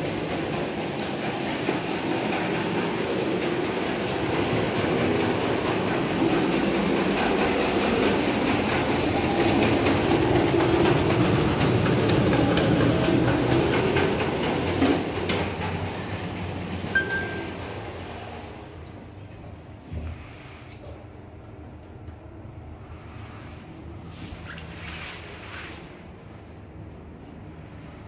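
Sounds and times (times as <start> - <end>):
elevator rumbling in shaft: 0.0 - 24.8.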